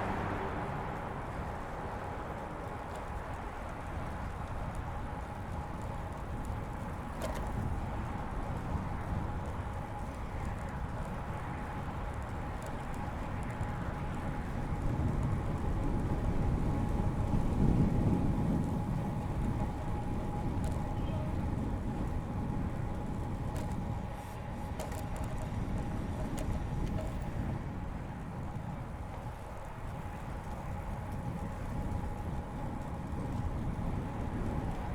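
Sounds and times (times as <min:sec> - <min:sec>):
wind and tyre noise from bike: 0:00.0 - 0:34.9
faint ticks: 0:01.3 - 0:34.9.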